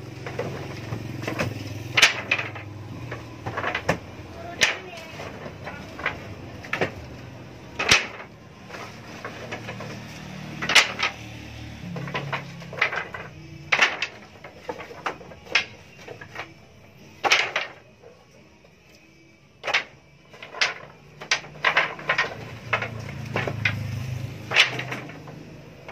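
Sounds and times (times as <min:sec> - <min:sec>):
wooden strips clacking together: 0:00.0 - 0:25.9.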